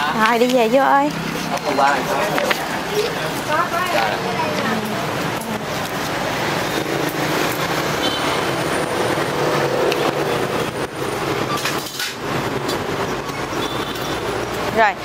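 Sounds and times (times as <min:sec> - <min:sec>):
motorbike engines passing: 0:00.0 - 0:15.0.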